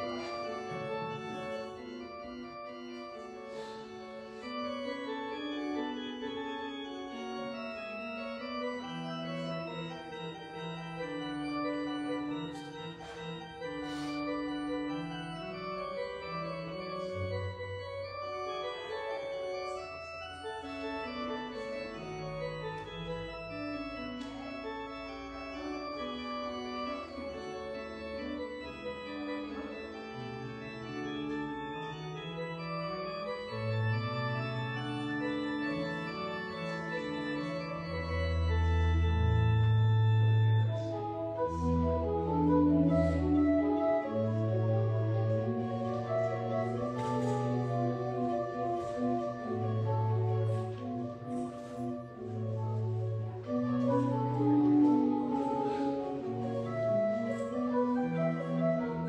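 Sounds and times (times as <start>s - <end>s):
organ playing slow chords: 0.0s - 59.0s.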